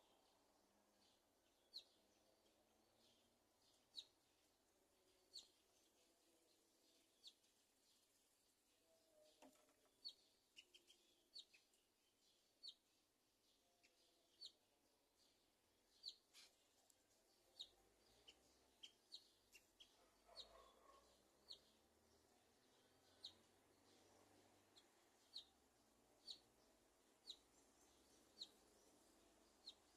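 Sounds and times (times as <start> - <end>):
small bird chirping: 0.0 - 29.9.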